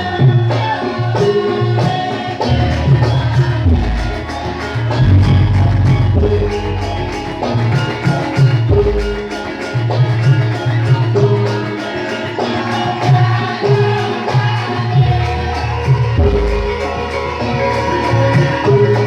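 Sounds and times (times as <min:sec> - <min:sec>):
live band music: 0:00.0 - 0:19.0
percussion hits: 0:00.0 - 0:19.0.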